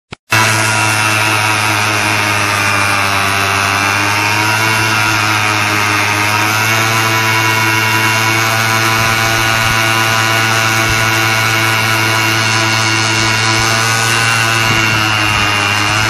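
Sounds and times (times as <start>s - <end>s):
scooter engine idling: 0.3s - 16.0s.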